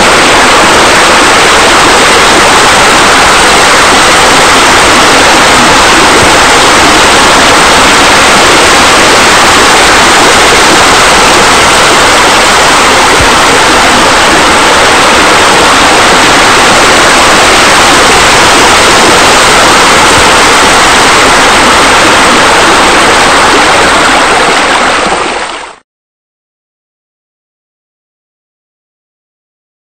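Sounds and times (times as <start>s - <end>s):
rush of falling water: 0.0s - 25.8s.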